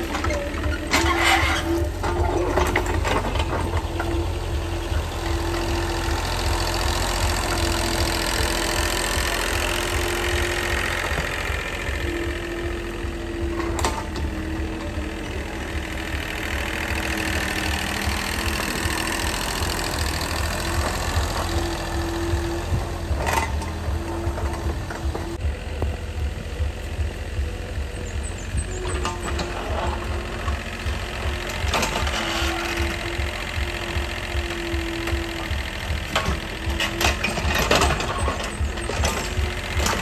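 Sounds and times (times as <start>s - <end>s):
motor humming: 0.0s - 40.0s.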